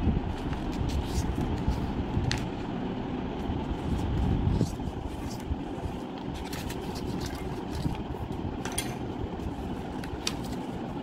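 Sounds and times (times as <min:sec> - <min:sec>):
low background rumble: 0:00.0 - 0:11.0
paper being folded and creased: 0:00.3 - 0:02.7, 0:03.4 - 0:08.4, 0:09.4 - 0:11.0.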